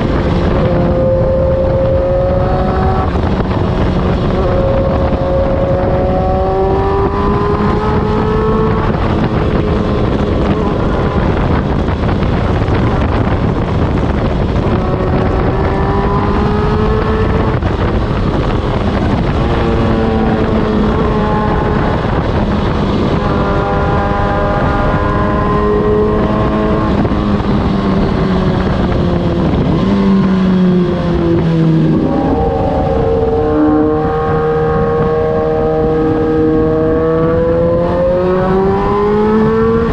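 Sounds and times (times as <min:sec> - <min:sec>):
motorcycle exhaust revving: 0:00.0 - 0:39.9
wind rush: 0:00.0 - 0:39.9.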